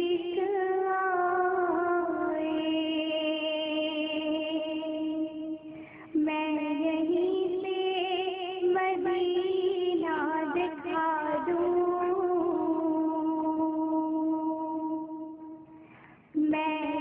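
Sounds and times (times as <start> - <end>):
girl singing into a microphone: 0.0 - 17.0.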